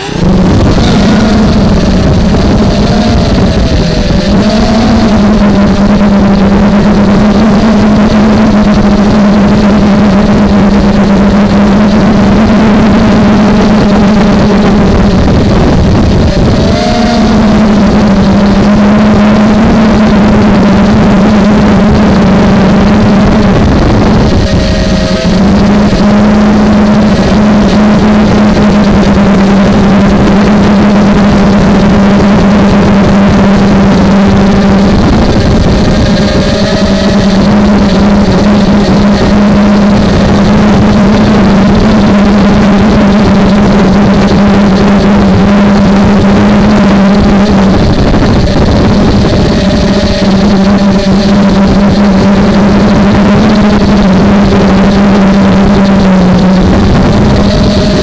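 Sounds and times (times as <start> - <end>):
quadcopter motors buzzing: 0.0 - 58.0.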